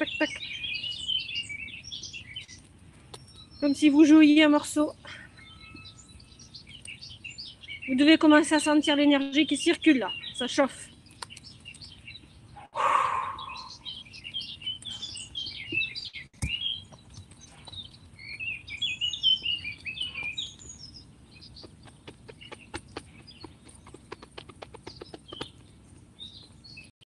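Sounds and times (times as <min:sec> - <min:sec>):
songbirds chirping: 0:00.0 - 0:26.9.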